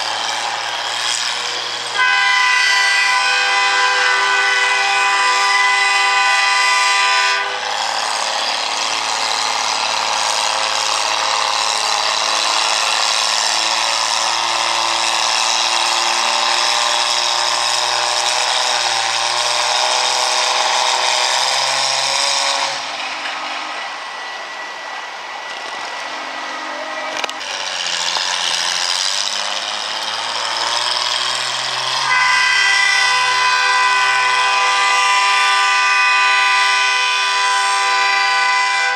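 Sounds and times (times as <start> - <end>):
tractor engine running hard: 0.0 - 38.9.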